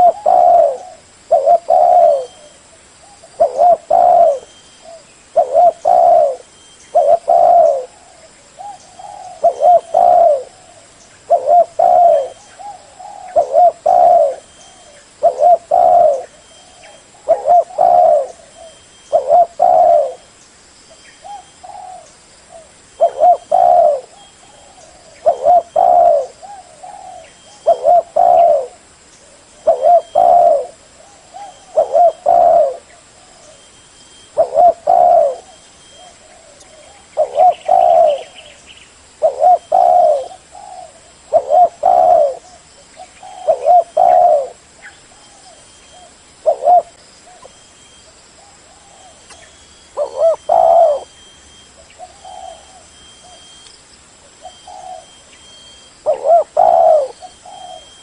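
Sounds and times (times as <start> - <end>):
dove cooing: 0.0 - 20.3, 21.2 - 38.6, 39.2 - 53.6, 54.3 - 58.0.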